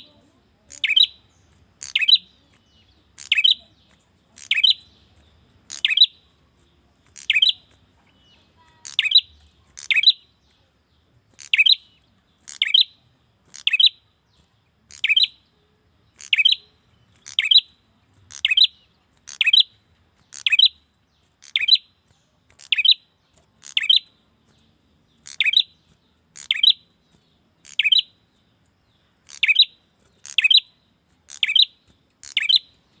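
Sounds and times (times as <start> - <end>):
bird chirping: 0.0 - 33.0.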